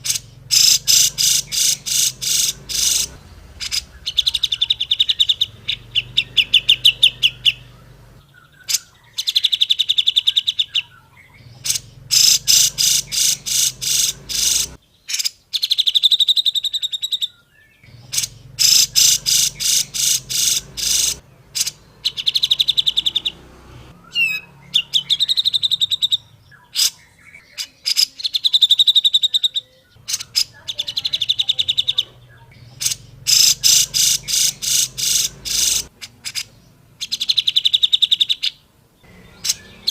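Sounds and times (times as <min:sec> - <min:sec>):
bulbul singing sharp notes: 0:00.0 - 0:17.0, 0:17.8 - 0:39.9.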